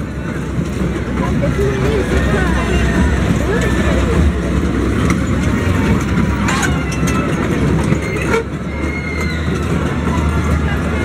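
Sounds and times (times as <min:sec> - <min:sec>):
crowd voices: 0:00.0 - 0:11.0
low rumble: 0:00.0 - 0:11.0.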